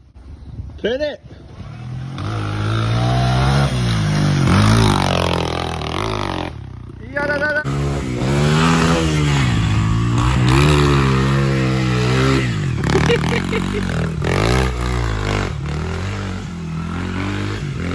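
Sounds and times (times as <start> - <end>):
dirt bike engine revving: 1.5 - 17.9.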